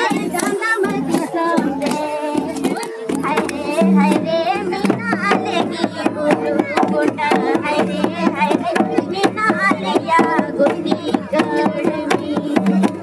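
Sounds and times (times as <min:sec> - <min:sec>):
folk singing: 0:00.0 - 0:13.0
hand-played barrel drums: 0:00.0 - 0:13.0.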